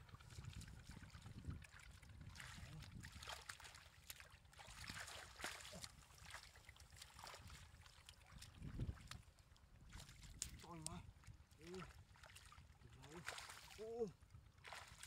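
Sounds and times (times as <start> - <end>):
muddy water sloshing and splashing: 0.0 - 15.0.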